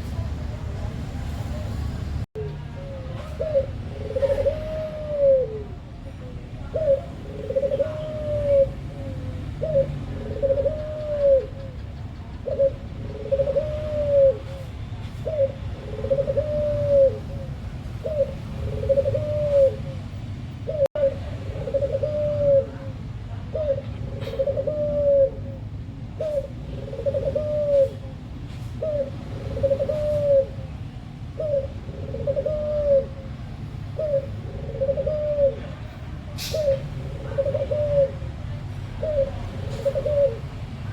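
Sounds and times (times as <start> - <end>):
dove cooing: 2.4 - 40.9.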